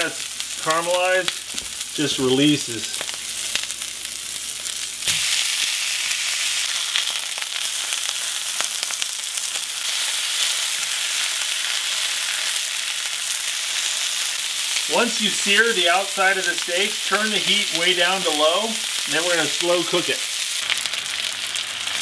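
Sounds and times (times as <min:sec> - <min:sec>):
steaks sizzling in skillet: 0:00.0 - 0:22.0.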